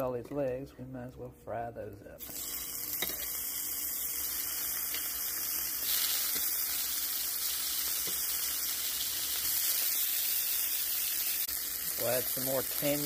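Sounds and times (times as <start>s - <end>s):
meat sizzling in a skillet: 2.2s - 13.0s.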